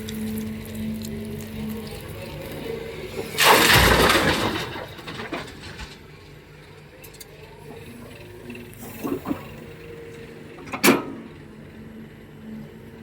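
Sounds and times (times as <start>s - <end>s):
heavy construction machinery running: 0.0s - 13.0s.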